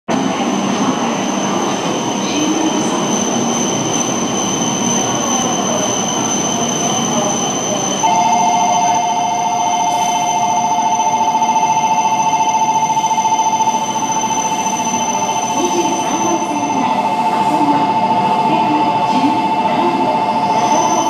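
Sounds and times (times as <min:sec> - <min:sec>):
electronic two-tone departure signal: 0:00.6 - 0:21.0.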